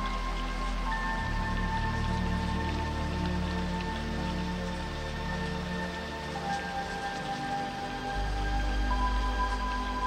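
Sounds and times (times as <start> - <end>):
slow synthesizer film score: 0.0 - 10.0
steady rainfall: 0.0 - 10.0.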